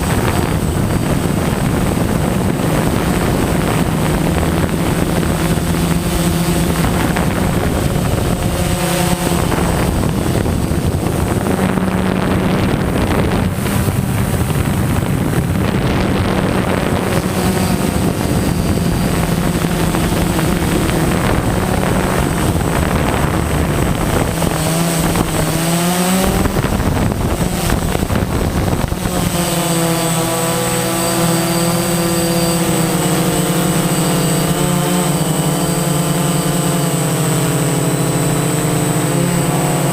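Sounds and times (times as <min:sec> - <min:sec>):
drone propellers humming: 0:00.0 - 0:39.9
wind rushing over microphone: 0:00.0 - 0:39.9.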